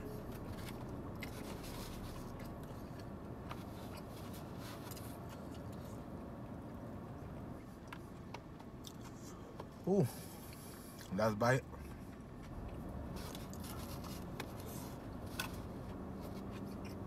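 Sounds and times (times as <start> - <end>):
man chewing food: 0.0 - 11.1, 11.7 - 17.0
low hum inside a car: 0.0 - 17.0.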